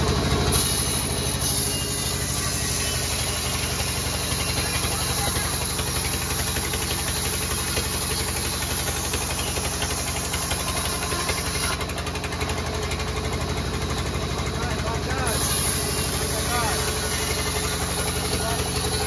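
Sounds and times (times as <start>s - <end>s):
band saw ripping through log: 0.5s - 13.5s, 15.1s - 19.0s.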